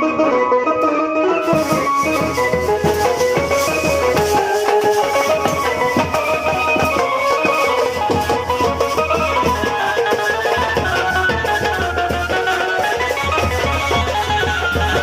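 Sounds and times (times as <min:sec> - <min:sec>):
melody of held notes: 0:00.0 - 0:15.0
steady drum beat: 0:01.4 - 0:15.0.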